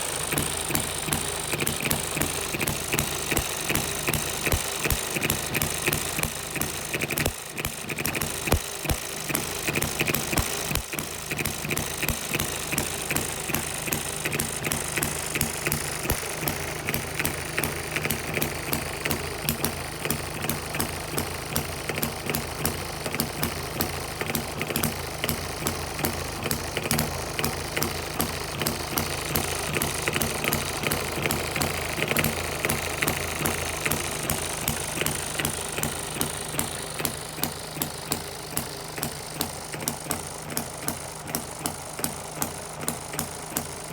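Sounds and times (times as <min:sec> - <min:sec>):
small stationary engine running: 0:00.0 - 0:43.9.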